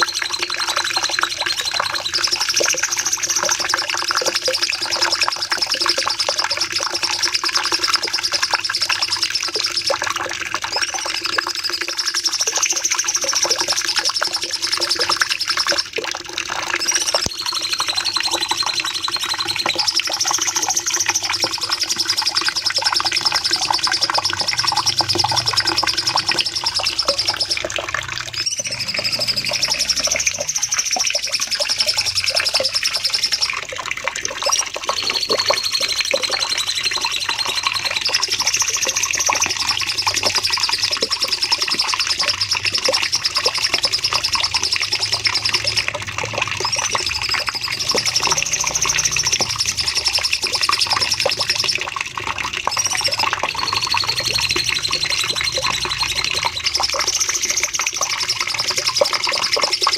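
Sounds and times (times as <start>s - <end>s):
bird singing buzzy trills: 0.0s - 33.6s, 34.5s - 51.8s, 52.7s - 59.9s.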